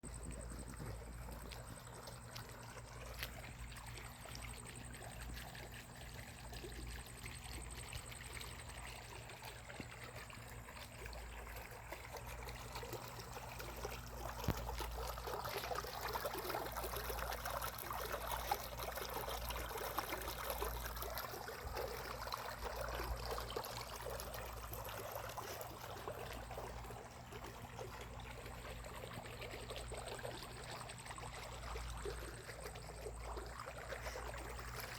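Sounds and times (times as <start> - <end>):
floodwater running and trickling: 0.0 - 34.9
steady low hum: 0.0 - 34.9.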